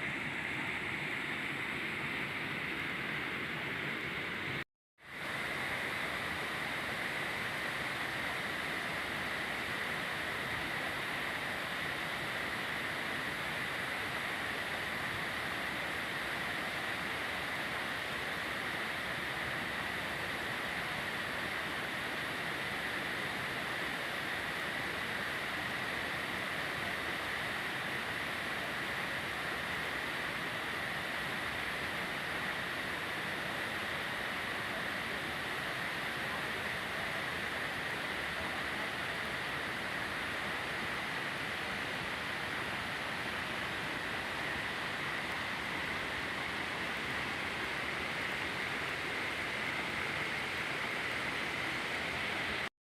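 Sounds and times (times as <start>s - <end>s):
waterfall rushing: 5.2s - 52.7s.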